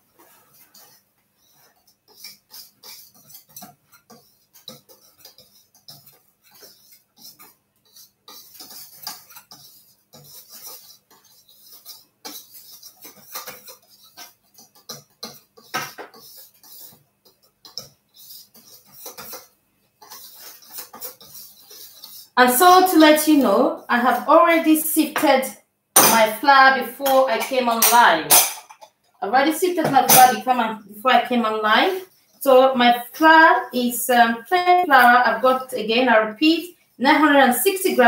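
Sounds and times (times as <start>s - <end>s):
whisk scraping metal bowl: 0.0s - 25.3s, 26.0s - 38.0s.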